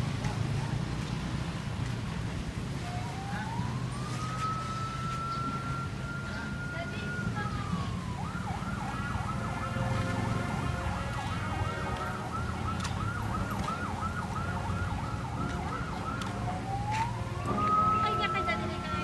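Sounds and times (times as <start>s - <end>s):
low traffic rumble: 0.0s - 19.0s
siren yelping: 2.8s - 19.0s.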